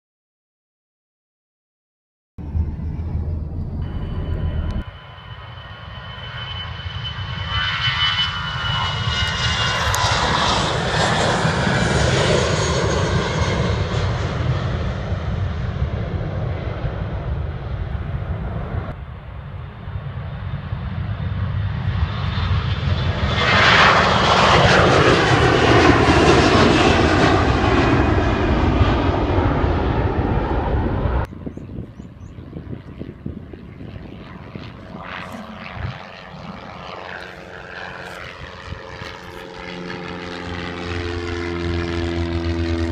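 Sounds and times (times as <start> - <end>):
jet airliner passing: 2.4 - 42.9.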